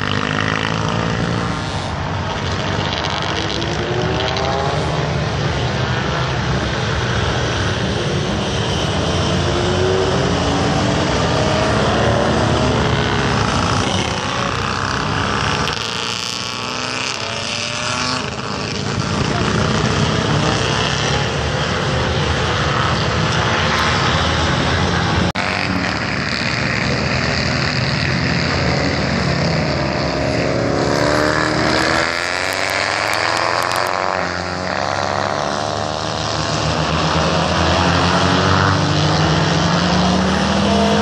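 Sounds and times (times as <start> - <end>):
racing motorcycles revving: 0.0 - 41.0.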